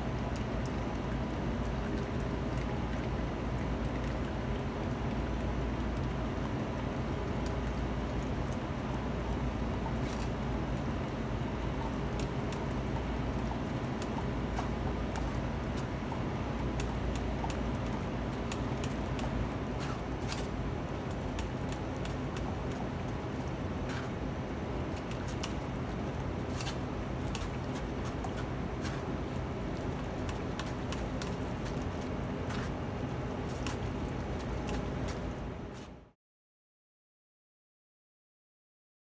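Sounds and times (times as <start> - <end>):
low machine hum: 0.0 - 36.1.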